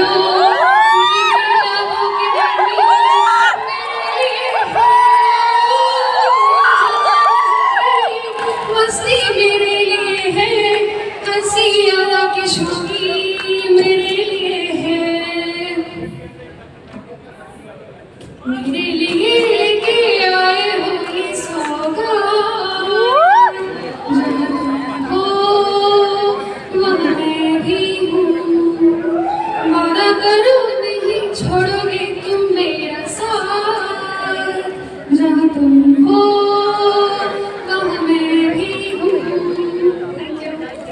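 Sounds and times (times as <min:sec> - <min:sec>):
woman singing through sound system: 0:00.0 - 0:16.5, 0:18.2 - 0:40.9.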